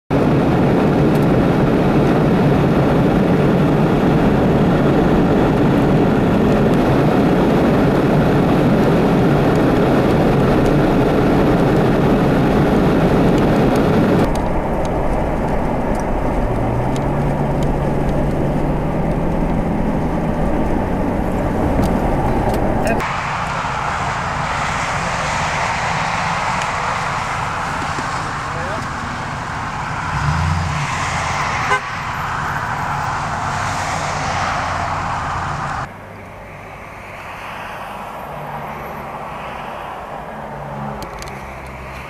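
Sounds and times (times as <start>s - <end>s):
car road and engine noise: 0.1s - 42.0s
traffic hum: 0.1s - 42.0s
low engine tone: 0.2s - 42.0s.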